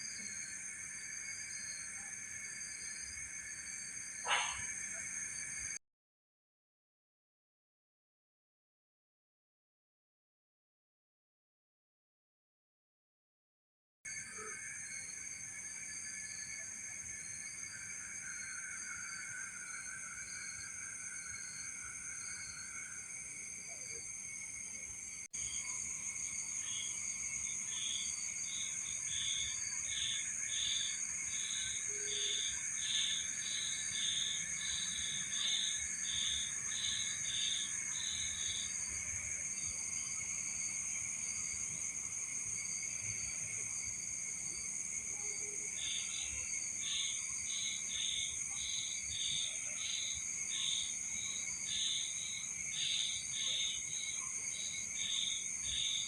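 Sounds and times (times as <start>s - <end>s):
insect chirping rhythmically: 0.0s - 5.8s, 14.1s - 56.0s
insects trilling: 0.0s - 5.8s, 14.1s - 56.0s.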